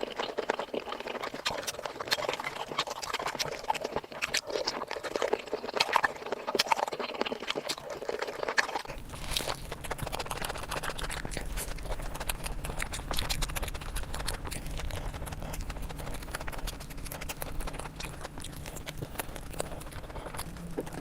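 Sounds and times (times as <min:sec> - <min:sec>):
mouth clicks: 0:00.0 - 0:21.0
wet chewing: 0:00.0 - 0:21.0.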